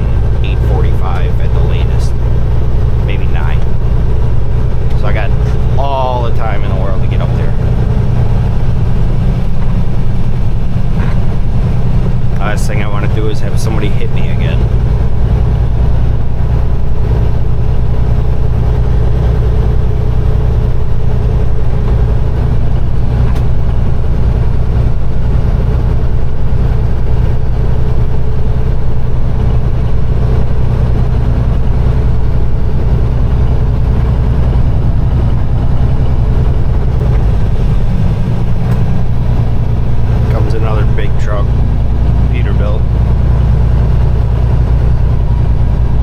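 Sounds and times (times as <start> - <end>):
truck diesel engine droning: 0.0 - 46.0.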